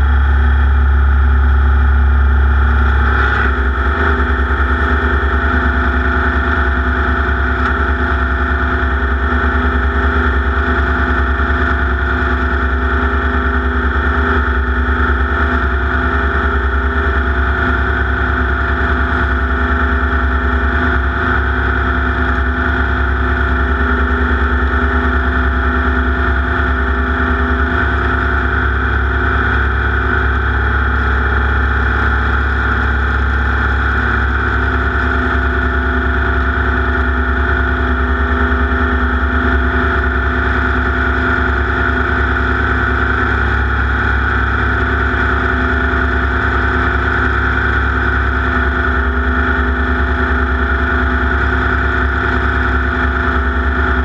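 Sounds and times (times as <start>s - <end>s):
race car engine running hard: 0.0s - 54.0s.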